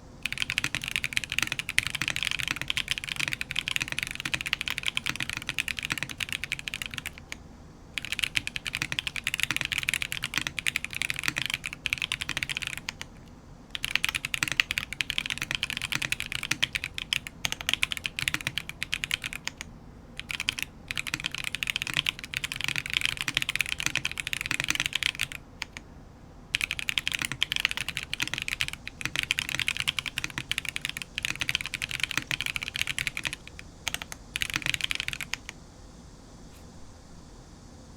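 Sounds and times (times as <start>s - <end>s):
fast mechanical keyboard typing: 0.2s - 7.4s, 8.0s - 25.8s, 26.5s - 35.6s.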